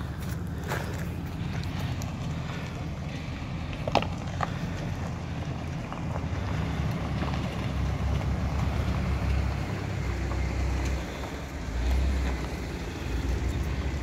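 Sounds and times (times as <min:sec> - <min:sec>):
vehicle engine at low revs: 0:00.0 - 0:14.0.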